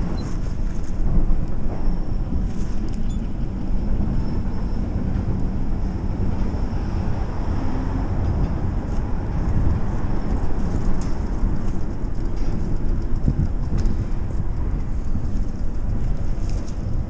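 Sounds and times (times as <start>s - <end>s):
train cars rumbling on track: 0.0s - 17.0s
wind noise on microphone: 0.0s - 17.0s.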